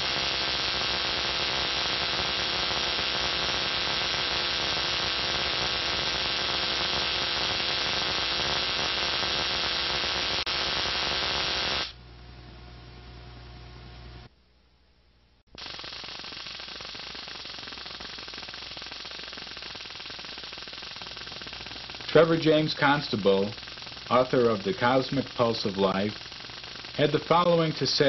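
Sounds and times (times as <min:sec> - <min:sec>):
spark gap buzzing hiss: 0:00.0 - 0:12.0, 0:15.5 - 0:28.0
mains hum: 0:00.0 - 0:28.0.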